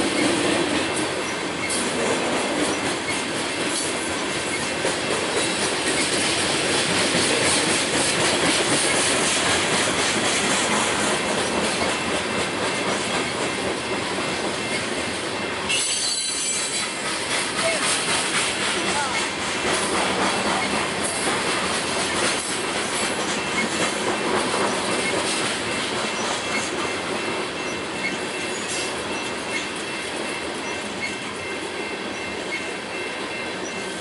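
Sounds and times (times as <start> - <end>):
freight train wheels clattering: 0.0 - 34.0.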